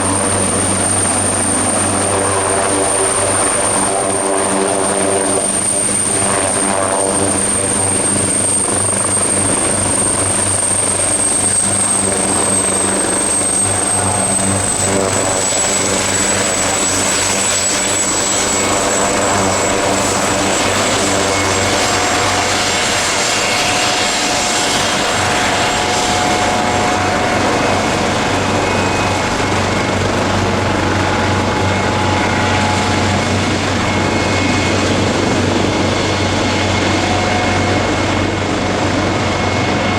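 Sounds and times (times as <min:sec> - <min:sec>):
helicopter turbines and rotor roar: 0:00.0 - 0:39.9.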